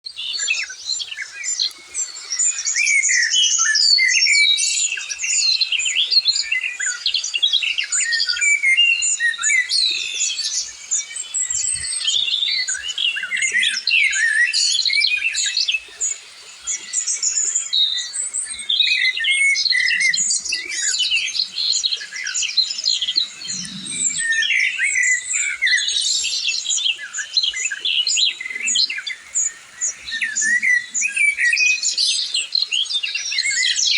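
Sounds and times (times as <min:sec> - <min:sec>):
birds chirping: 0:05.0 - 0:33.9.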